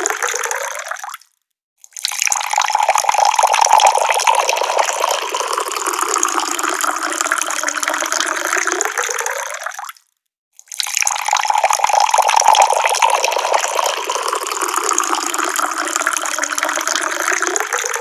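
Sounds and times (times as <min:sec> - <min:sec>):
water pouring from a tap: 0:00.0 - 0:01.2, 0:01.9 - 0:10.0, 0:10.6 - 0:18.0.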